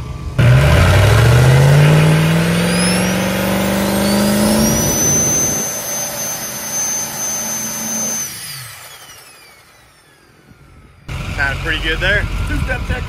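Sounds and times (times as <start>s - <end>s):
engine revving on limiter: 0.0s - 13.0s
high whine: 0.0s - 13.0s.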